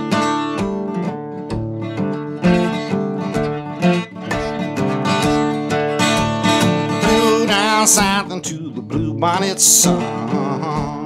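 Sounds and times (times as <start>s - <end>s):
acoustic guitar picking and strumming: 0.0s - 11.0s.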